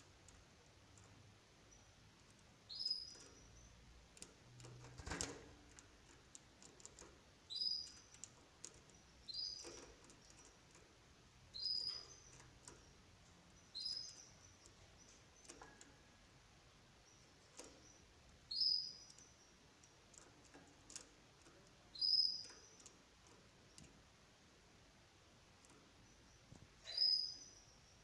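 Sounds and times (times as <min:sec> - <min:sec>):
canary chirping: 0:00.0 - 0:28.0.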